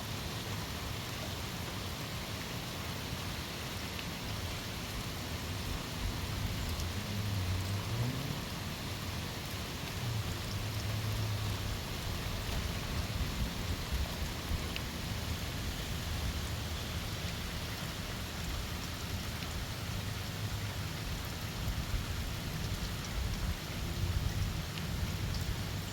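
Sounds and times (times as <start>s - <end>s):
heavy rain: 0.0s - 25.9s.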